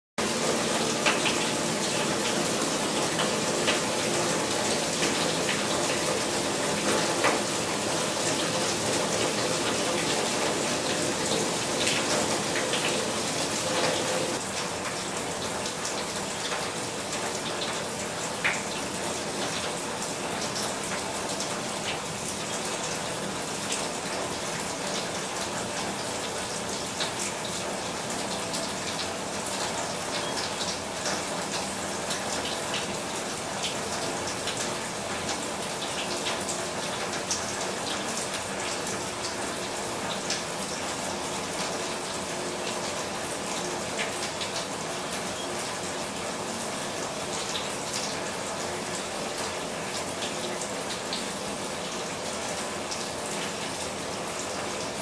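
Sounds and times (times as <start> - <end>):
steady rain: 0.2 - 55.0.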